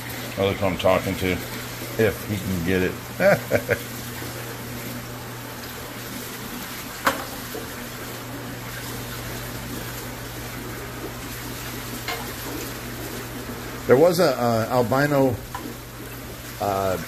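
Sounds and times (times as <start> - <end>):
aquarium water hiss and bubbling: 0.0 - 17.0.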